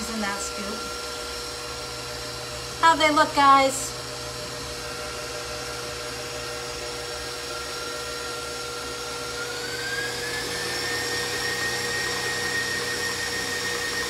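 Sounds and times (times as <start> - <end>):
stand mixer motor whine: 0.0 - 14.0.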